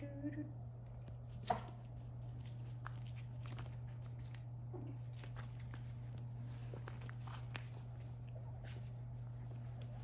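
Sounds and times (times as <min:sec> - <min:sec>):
steady low hum: 0:00.0 - 0:10.0
puppies rustling and clicking: 0:00.9 - 0:10.0.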